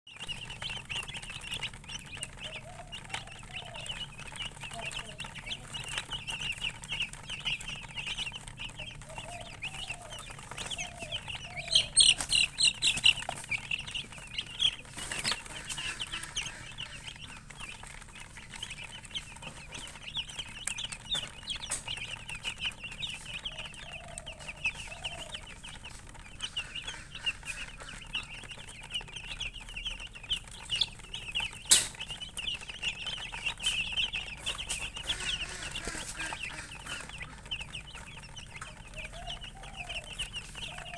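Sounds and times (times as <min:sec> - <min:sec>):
chicks peeping: 0:00.0 - 0:40.9
hen clucking: 0:00.1 - 0:40.9.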